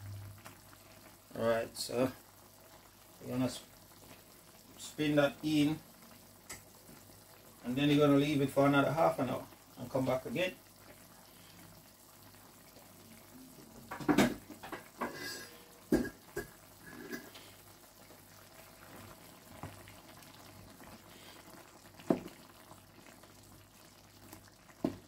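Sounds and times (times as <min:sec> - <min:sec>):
curry simmering faintly: 0:00.0 - 0:25.0.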